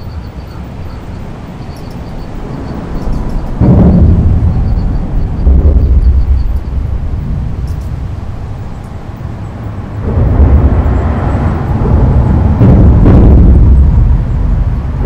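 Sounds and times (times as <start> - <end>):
traffic rumbling over bridge: 0.0 - 15.0.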